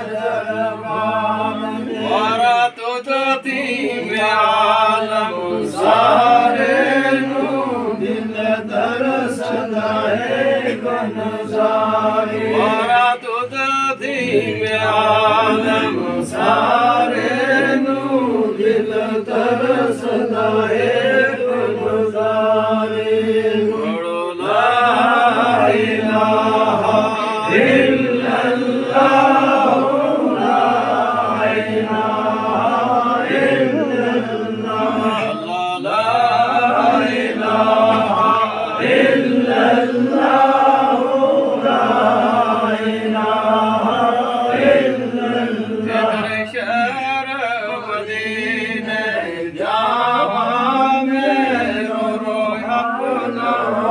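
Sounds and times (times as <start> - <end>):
men chanting together: 0.0 - 53.9.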